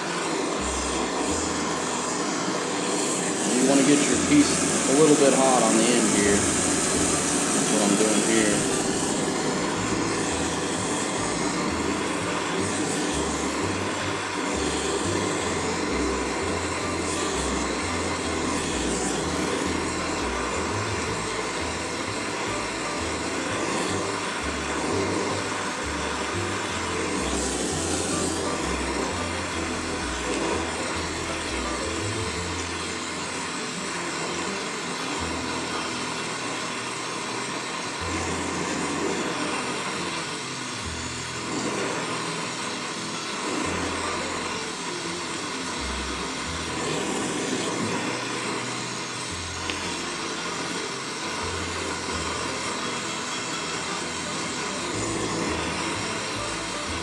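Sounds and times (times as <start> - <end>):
torch hissing: 0.0 - 57.0
background music with bass line: 3.8 - 57.0.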